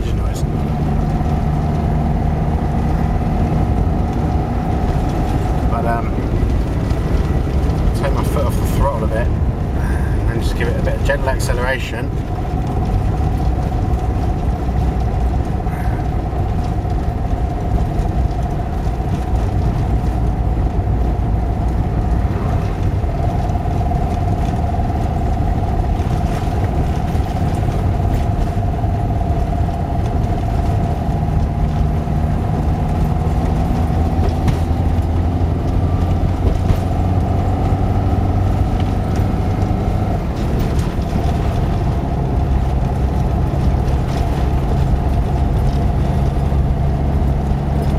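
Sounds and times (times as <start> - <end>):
engine accelerating: 0.0 - 47.9
road noise: 0.0 - 47.9.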